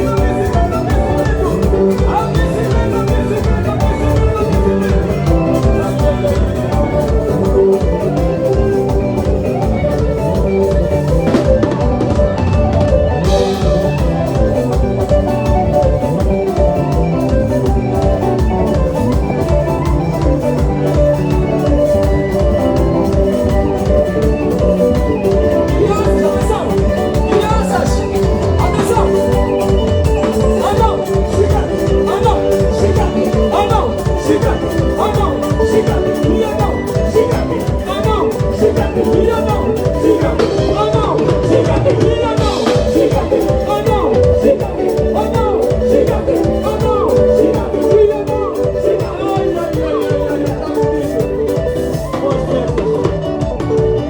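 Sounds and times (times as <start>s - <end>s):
dance band music: 0.0s - 54.0s.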